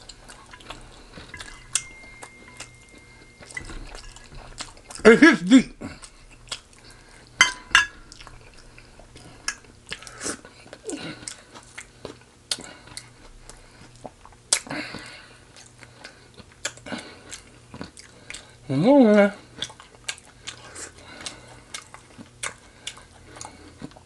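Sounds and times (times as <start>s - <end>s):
person chewing crunchy food: 0.0s - 18.7s, 19.4s - 24.0s.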